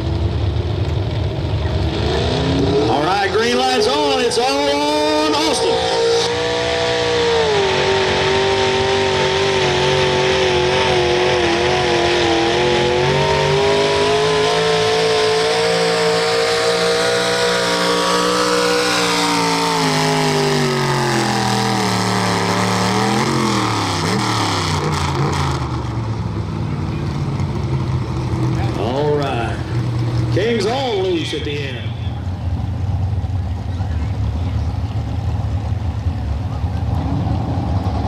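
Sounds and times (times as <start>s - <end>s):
truck engine revving under load: 0.0s - 38.0s.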